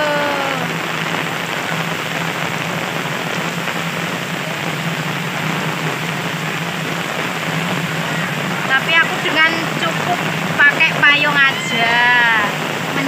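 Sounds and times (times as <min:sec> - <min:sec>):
rain falling on umbrella: 0:00.0 - 0:13.0.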